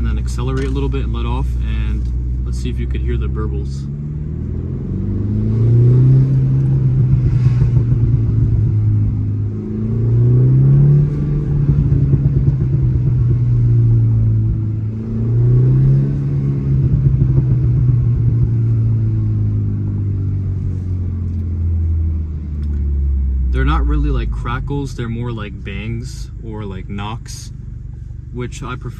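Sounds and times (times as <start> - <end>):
exhaust overrun burbles: 0.0 - 20.5, 21.5 - 28.9
car engine revving: 0.0 - 28.9.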